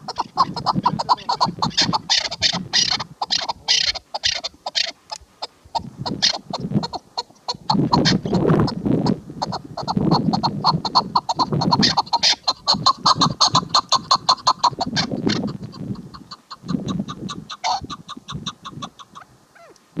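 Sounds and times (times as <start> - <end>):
partridge clucking calls: 0.0 - 19.9.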